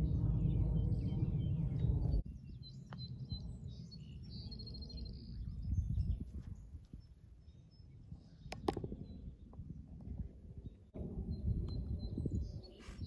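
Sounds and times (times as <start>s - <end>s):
birds chirping and trilling: 0.0s - 13.0s
wind rumbling on microphone: 0.0s - 13.0s.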